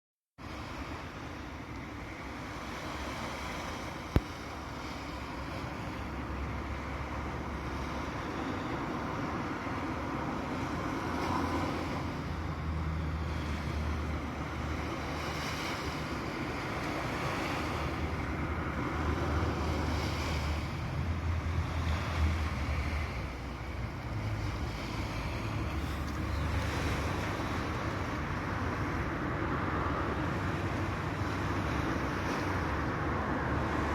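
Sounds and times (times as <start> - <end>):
sea waves breaking: 0.4 - 33.9
wind rumbling on microphone: 2.9 - 33.9.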